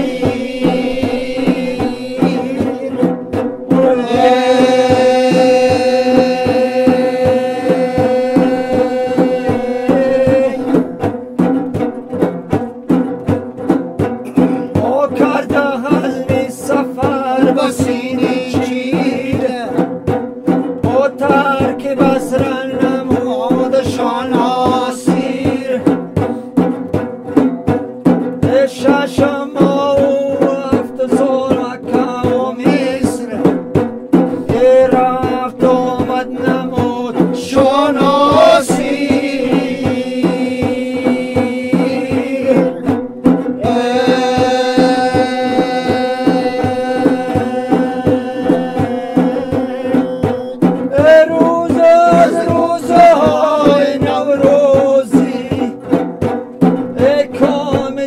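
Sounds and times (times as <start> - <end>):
men singing in long held lines: 0.0 - 13.0, 14.0 - 26.8, 28.2 - 58.0
frame drum beating: 0.0 - 58.0.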